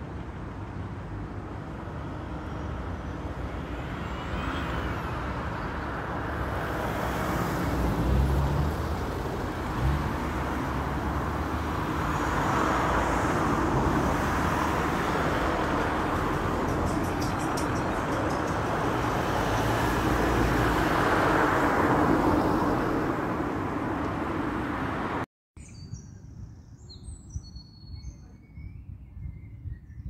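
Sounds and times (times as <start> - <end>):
traffic passing: 0.0 - 25.3.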